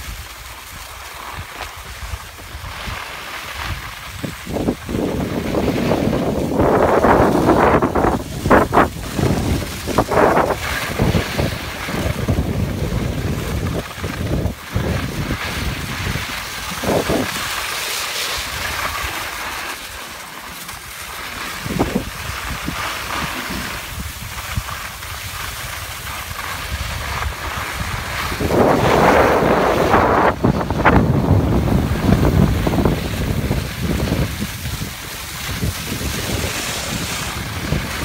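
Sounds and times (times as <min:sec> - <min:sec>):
skis sliding on snow: 0:00.0 - 0:38.0
wind buffeting microphone: 0:01.4 - 0:17.7, 0:21.5 - 0:38.0.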